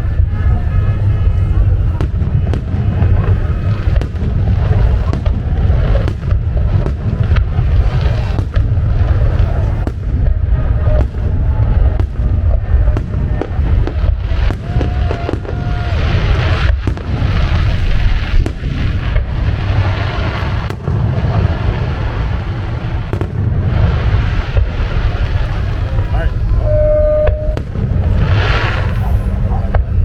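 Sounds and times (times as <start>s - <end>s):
fireworks booming and crackling: 0.0s - 30.0s.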